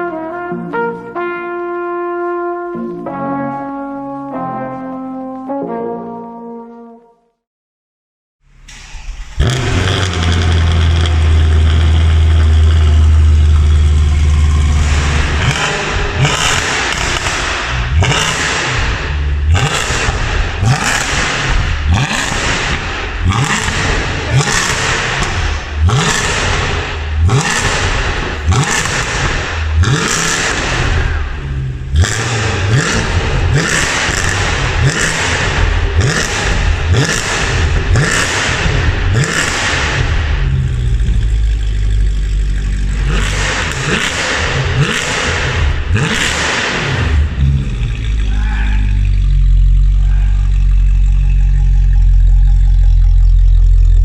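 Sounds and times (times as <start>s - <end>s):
car engine revving: 8.6s - 54.0s.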